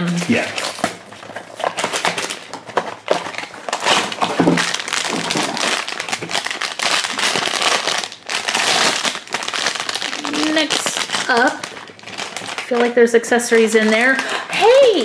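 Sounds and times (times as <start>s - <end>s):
foil bag crinkling and tearing: 0.0s - 15.0s.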